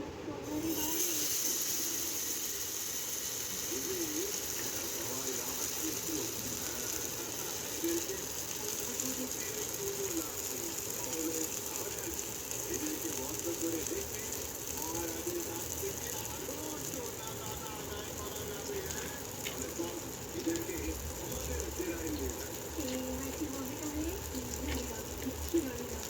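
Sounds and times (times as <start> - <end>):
fish sizzling in hot oil: 0.5 - 26.0.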